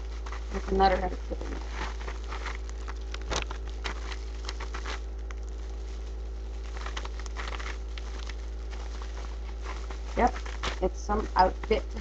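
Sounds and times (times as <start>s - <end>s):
packaging crinkling and rustling: 0.0s - 12.0s
steady low hum: 0.0s - 12.0s.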